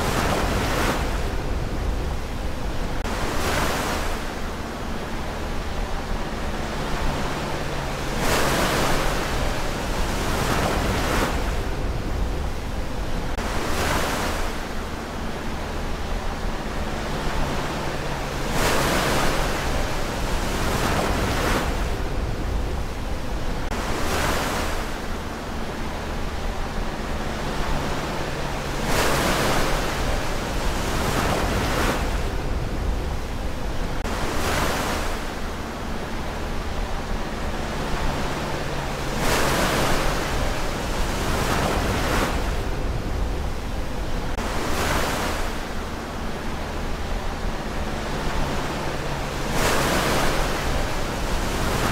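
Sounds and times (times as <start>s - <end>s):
waves breaking on shore: 0.0s - 51.9s.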